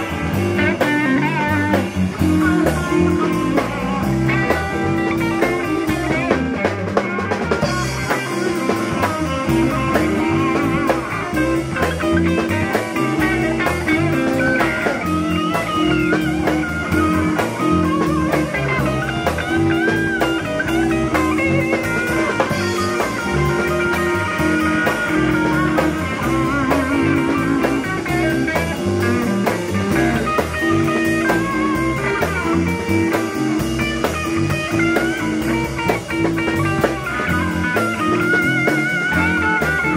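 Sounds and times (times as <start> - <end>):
drum kit beat: 0.0 - 39.9
electric guitar lead lines: 0.0 - 39.9.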